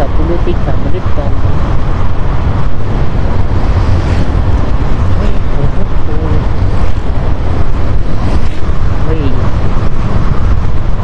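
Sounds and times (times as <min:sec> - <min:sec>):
scooter ride rumble: 0:00.0 - 0:11.0.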